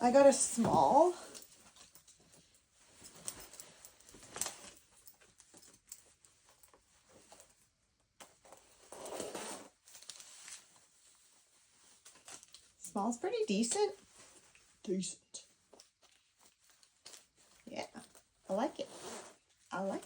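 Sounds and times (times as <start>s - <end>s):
shirt fabric rustling: 0.1s - 7.8s, 8.4s - 20.0s.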